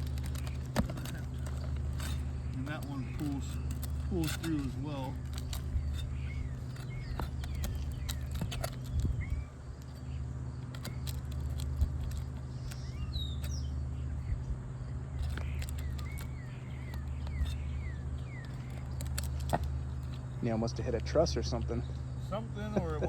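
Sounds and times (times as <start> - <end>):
hand tool pulling nails: 0.0 - 13.7, 15.2 - 20.4
birds chirping: 0.0 - 23.0
steady low hum: 0.0 - 23.0.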